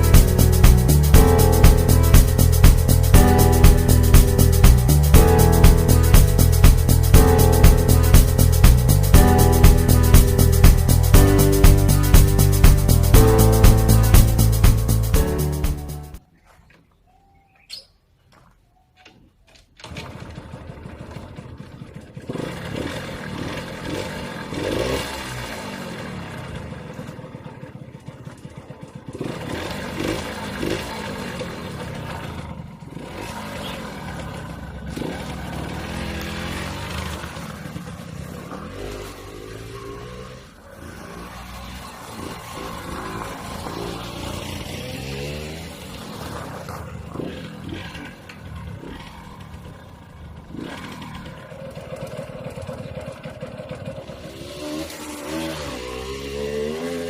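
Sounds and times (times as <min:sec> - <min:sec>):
two-stroke minibike engine revving: 0:00.0 - 0:16.2, 0:19.8 - 0:57.0.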